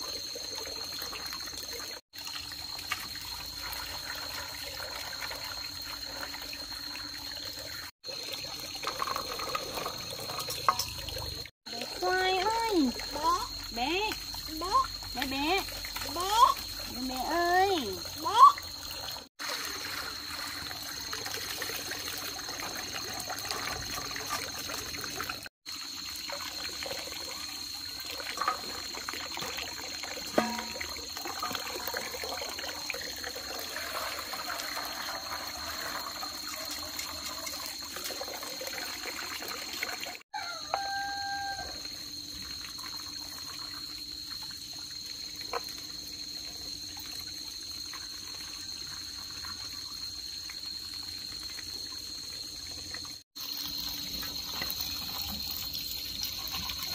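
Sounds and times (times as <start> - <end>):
water trickling and splashing: 0.0 - 56.9.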